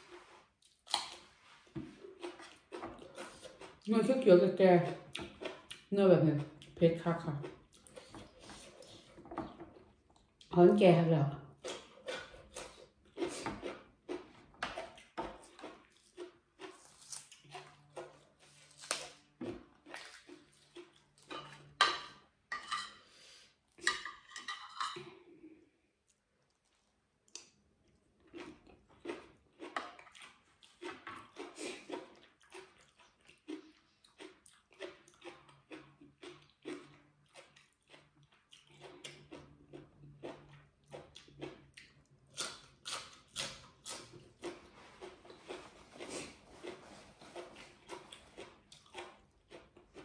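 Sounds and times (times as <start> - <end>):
person chewing crunchy vegetables: 0.0 - 10.6, 11.4 - 23.9, 25.1 - 50.0.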